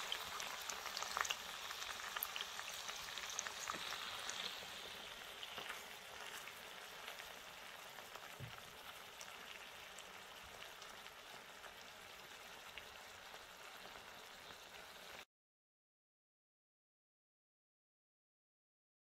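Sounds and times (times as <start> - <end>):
faint sizzling in a pan: 0.0 - 15.3.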